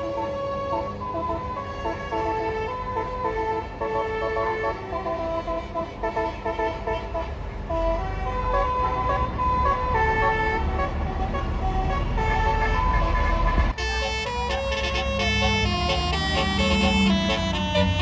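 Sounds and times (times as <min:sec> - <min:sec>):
low engine rumble: 0:00.0 - 0:18.0
musical bus air horn melody: 0:00.0 - 0:18.0.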